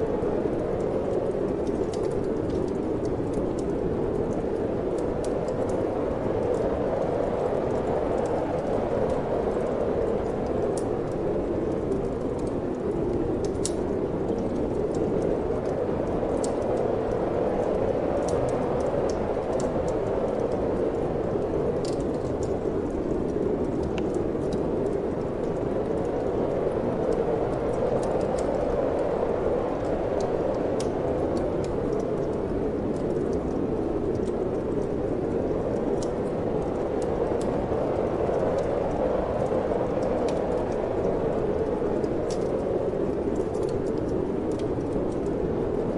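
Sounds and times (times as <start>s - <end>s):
wind blowing: 0.0s - 45.9s
wood fire crackling: 0.0s - 45.9s.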